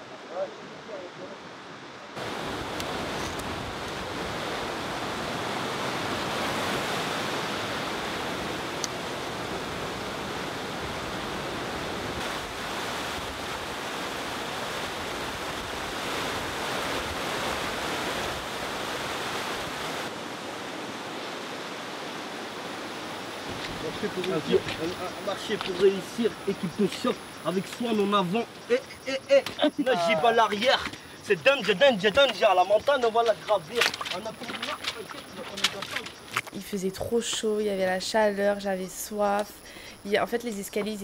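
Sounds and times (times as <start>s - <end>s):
stream rushing over boulders: 0.0s - 38.6s.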